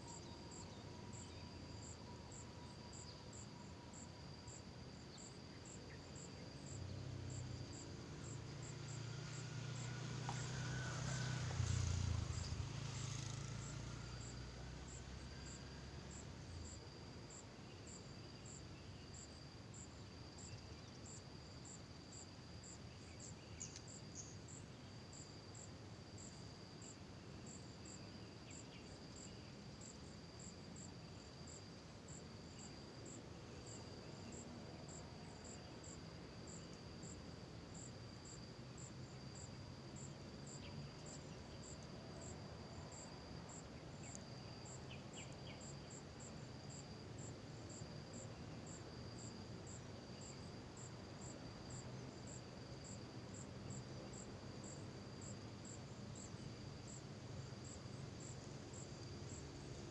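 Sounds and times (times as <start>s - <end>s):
insect chirping: 0.0s - 59.9s.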